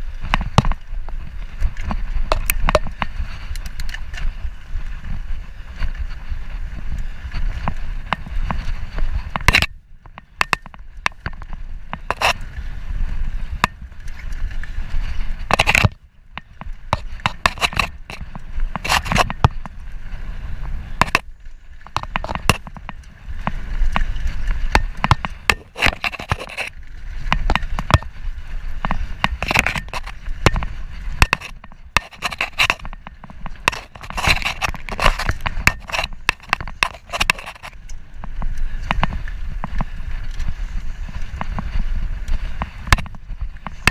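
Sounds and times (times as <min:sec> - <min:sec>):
bike knocking and rattling: 0:00.0 - 0:43.9
tyres crunching over dirt: 0:00.0 - 0:43.9
wind on microphone: 0:00.0 - 0:43.9.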